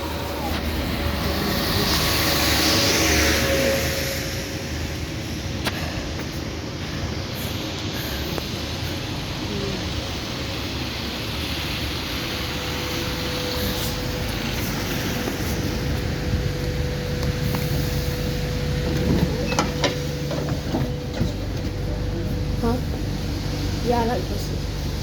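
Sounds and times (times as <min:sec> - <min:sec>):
bus drivetrain drone: 0:00.0 - 0:25.0.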